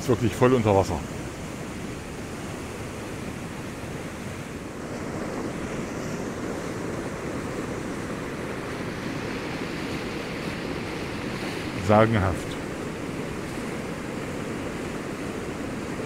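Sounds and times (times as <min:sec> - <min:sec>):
water rushing over weir: 0:00.0 - 0:16.0.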